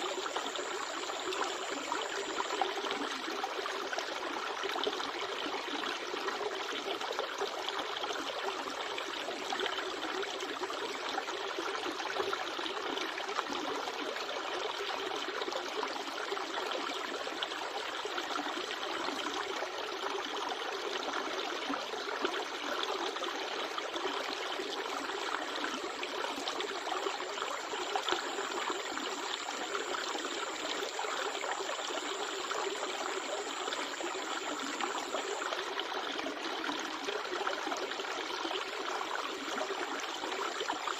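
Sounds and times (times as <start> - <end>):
river water trickling: 0.0 - 40.9.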